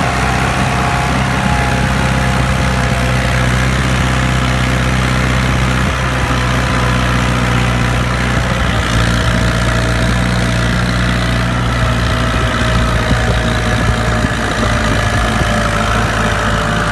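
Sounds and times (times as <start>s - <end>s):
diesel tractor engine at full throttle: 0.0s - 16.9s.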